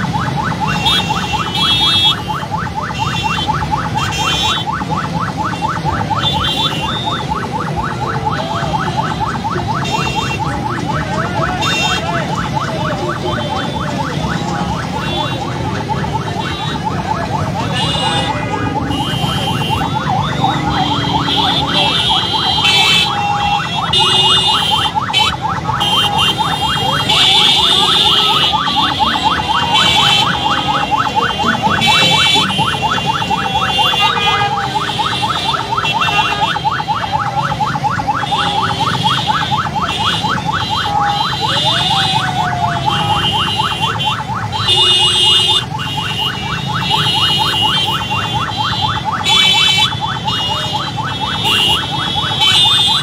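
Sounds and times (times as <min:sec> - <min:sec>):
car engines running: 0:00.0 - 0:53.0
car horns: 0:00.0 - 0:53.0
motorbikes: 0:00.0 - 0:53.0.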